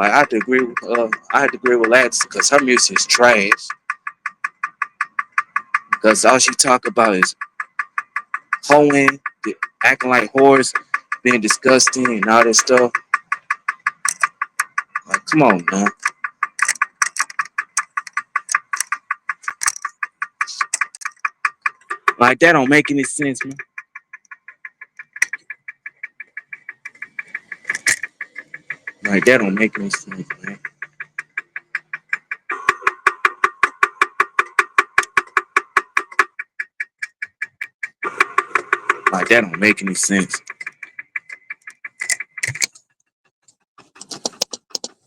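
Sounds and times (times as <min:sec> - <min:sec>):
rapid clicking: 0:00.0 - 0:45.0.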